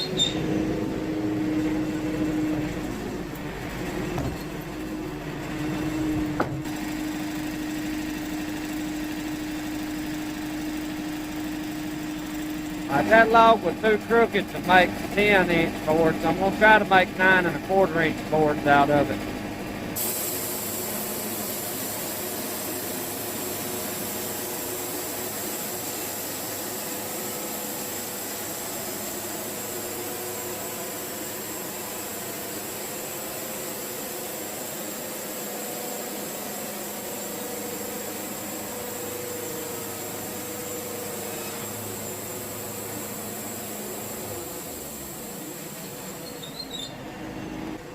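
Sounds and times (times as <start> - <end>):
band sawmill sawing a log: 0.0 - 19.7, 20.4 - 47.6.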